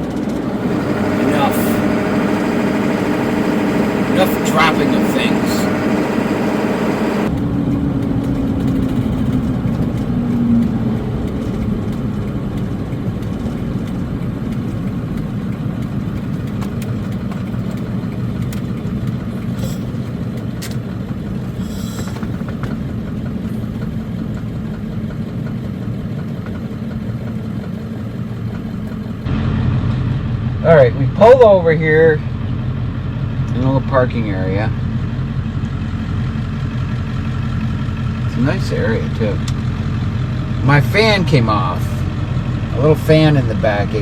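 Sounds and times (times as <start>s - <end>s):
diesel engine running while driving: 0.0s - 44.0s
road noise: 0.0s - 44.0s.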